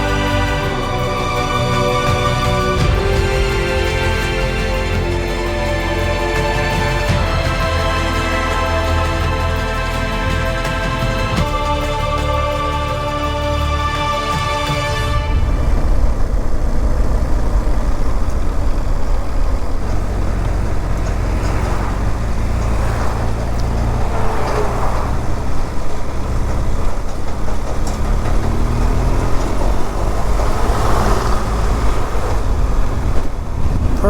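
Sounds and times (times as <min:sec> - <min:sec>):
motorcycle engine running: 0:00.0 - 0:12.9, 0:15.0 - 0:34.0
heavy wind noise: 0:00.0 - 0:34.0
road rumble: 0:00.0 - 0:34.0.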